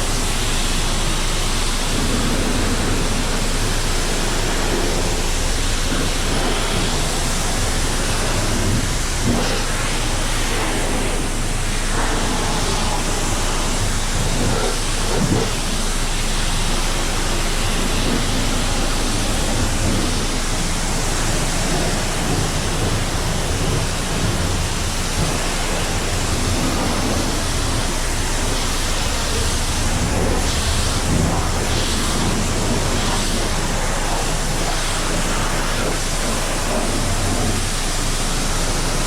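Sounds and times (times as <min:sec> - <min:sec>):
pressure washer water spraying: 0:00.0 - 0:39.0.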